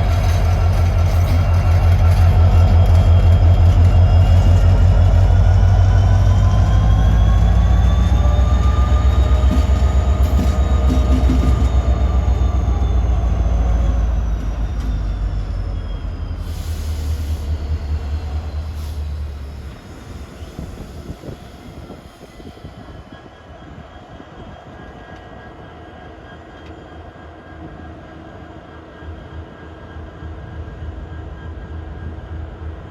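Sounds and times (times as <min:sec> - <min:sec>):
faint high squeal: 0:00.0 - 0:32.2
diesel locomotive engine rumble: 0:00.0 - 0:32.9
train rolling on rails: 0:00.0 - 0:32.9.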